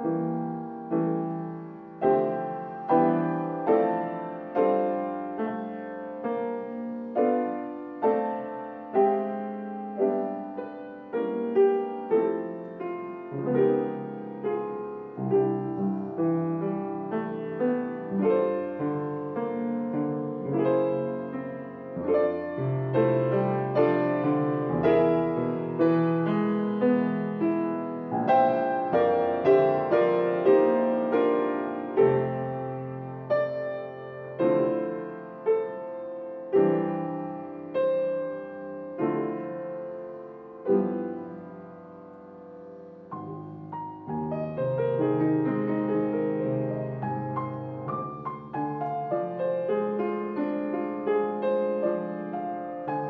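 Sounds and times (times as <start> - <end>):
slow solo piano: 0.0 - 53.0.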